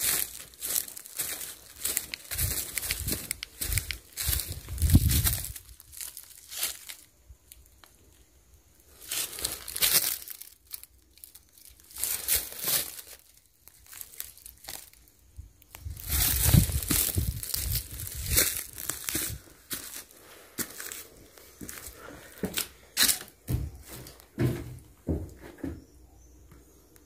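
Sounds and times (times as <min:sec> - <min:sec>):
footsteps crunching dry leaves: 0:00.0 - 0:07.1, 0:08.9 - 0:25.2.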